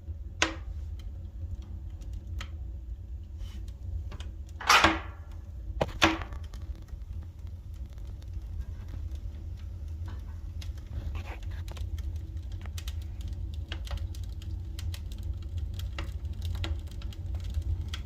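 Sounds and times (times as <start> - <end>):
fire low rumble: 0.0 - 18.0
firewood crackling and popping: 0.0 - 18.0.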